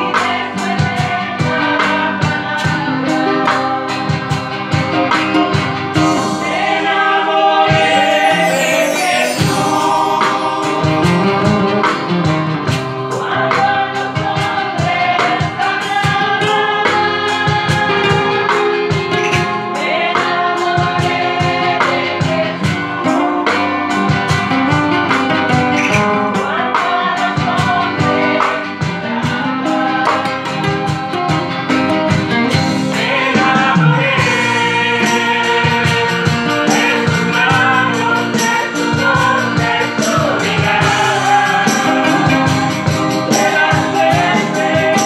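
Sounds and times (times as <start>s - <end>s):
choir singing a hymn: 0.0s - 45.0s
guitars playing: 0.0s - 45.0s.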